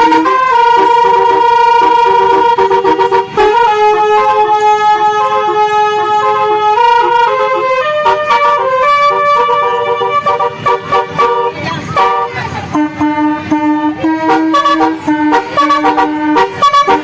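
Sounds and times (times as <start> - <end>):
musical air horn playing tune: 0.0 - 17.0.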